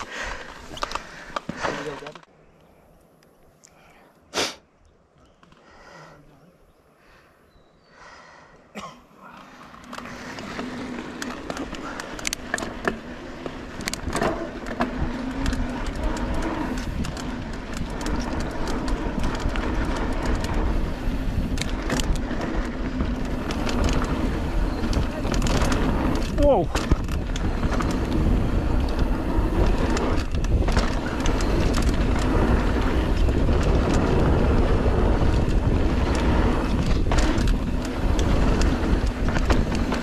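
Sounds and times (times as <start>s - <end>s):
bike rattling over bumps: 0.0s - 2.2s, 9.4s - 40.0s
bike tyres rolling on dirt: 0.0s - 2.3s, 7.8s - 40.0s.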